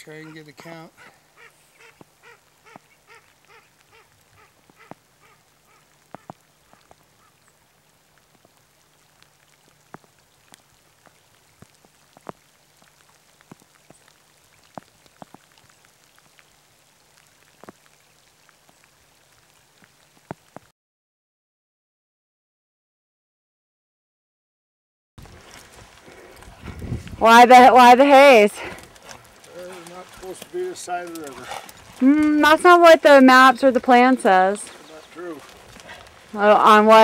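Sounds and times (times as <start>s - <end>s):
raindrops ticking: 0.0s - 20.7s, 25.2s - 37.0s.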